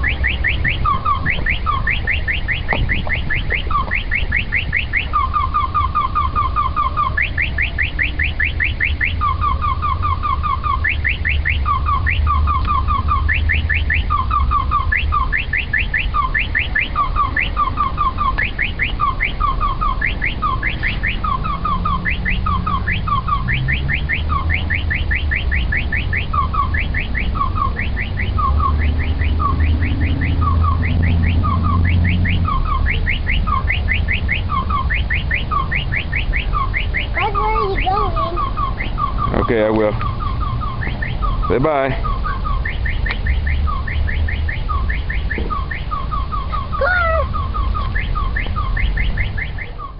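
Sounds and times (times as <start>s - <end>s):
car alarm chirps and beeps: 0.0s - 49.9s.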